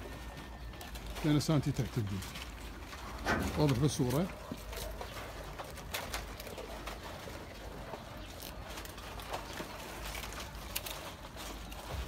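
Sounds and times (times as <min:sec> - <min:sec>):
goats crunching dry bread: 0:00.0 - 0:12.0.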